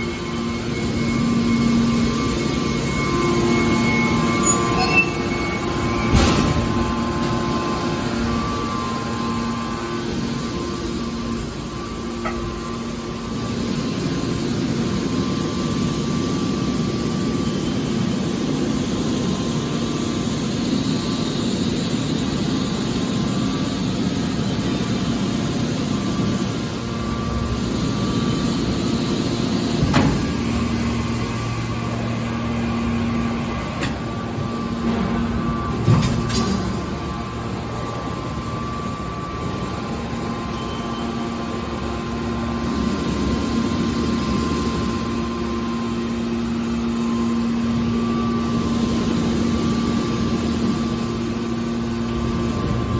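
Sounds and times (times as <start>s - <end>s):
hydraulic baler humming: 0.0s - 52.9s.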